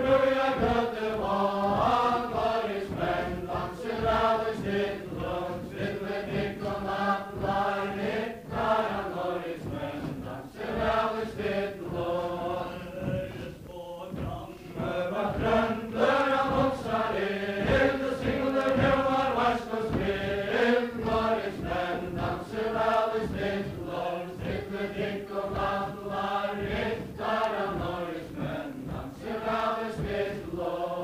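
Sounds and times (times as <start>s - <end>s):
group singing in unison: 0.0s - 31.0s.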